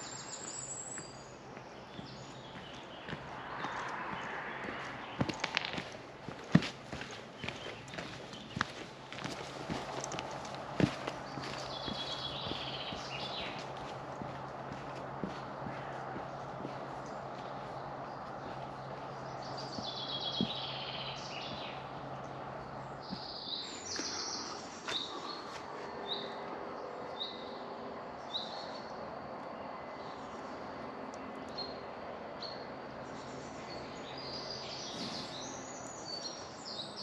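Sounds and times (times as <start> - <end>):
small birds singing: 0.0 - 37.0.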